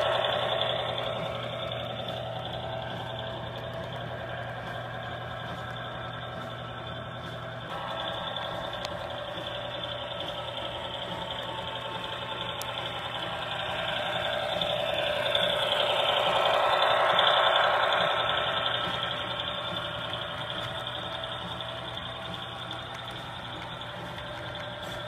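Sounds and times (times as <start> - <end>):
model train motor humming: 0.0 - 25.0.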